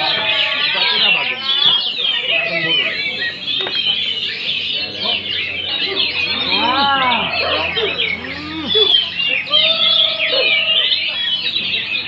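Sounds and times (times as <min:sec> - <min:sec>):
drawn-out bird call: 0:00.0 - 0:12.0
songbirds chirping and trilling: 0:00.0 - 0:12.0.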